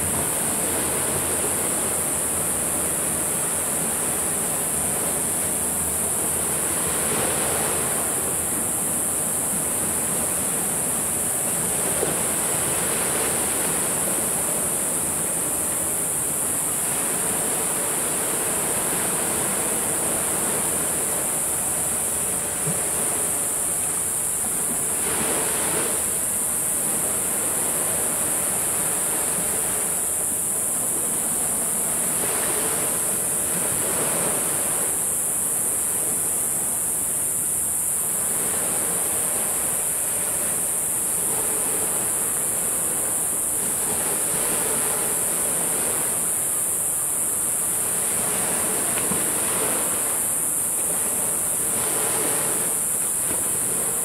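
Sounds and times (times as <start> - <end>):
constant high hiss: 0.0 - 54.0
sea waves breaking on beach: 0.0 - 54.0.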